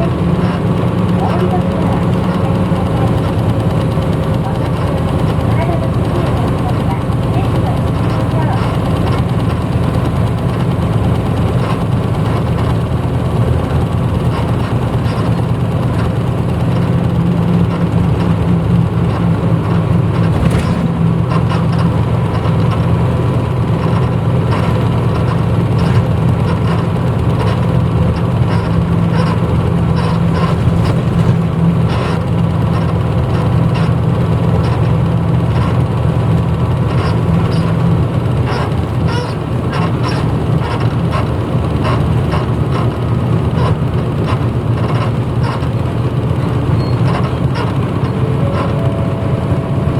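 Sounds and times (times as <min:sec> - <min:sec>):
short clicks and rattles: 0:00.0 - 0:48.9
bus diesel engine running: 0:00.0 - 0:49.9.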